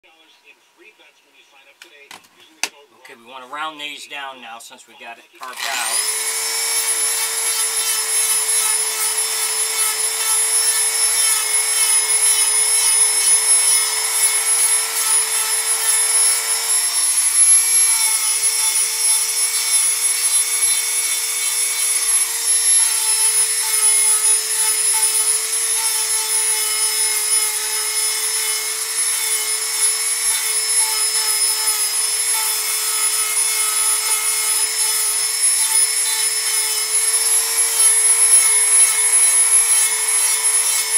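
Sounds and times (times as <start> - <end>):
rotary tool grinding wood: 5.4 - 40.9.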